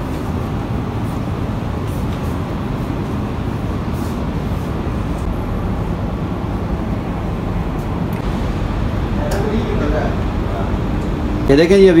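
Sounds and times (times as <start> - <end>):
shop background rumble: 0.0 - 12.0.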